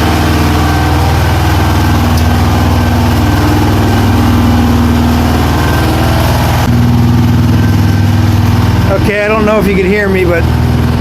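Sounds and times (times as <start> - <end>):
marine diesel engines droning: 0.0 - 11.0.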